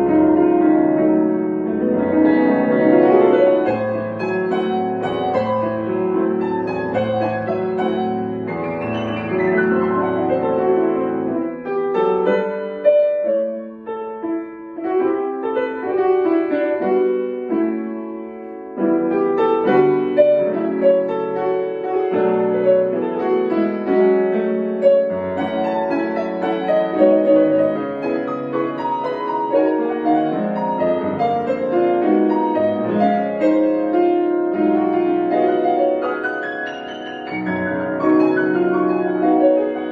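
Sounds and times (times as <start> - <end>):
solo piano classical piece: 0.0 - 39.9.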